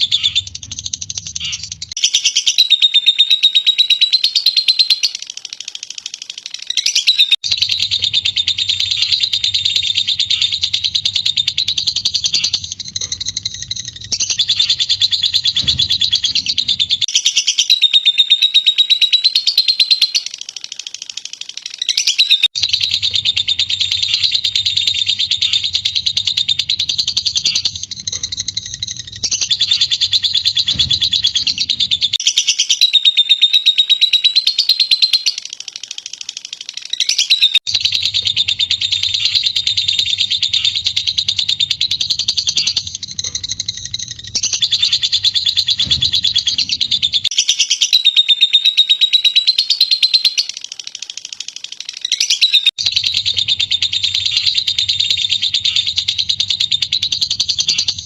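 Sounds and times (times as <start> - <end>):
bird shrill chattering trill: 0.0 - 50.8, 51.6 - 58.0.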